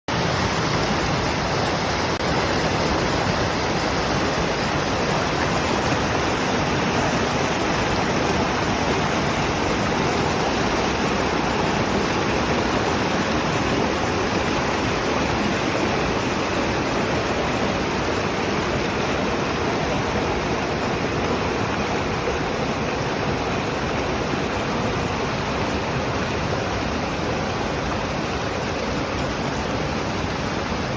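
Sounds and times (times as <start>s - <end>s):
running water rushing: 0.1s - 30.9s.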